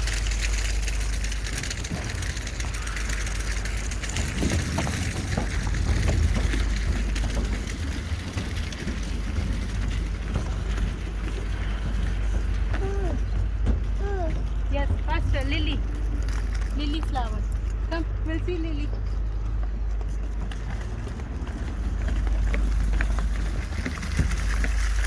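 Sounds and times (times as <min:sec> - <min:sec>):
riding rumble and hiss: 0:00.0 - 0:25.0
wind buffeting microphone: 0:00.0 - 0:25.0.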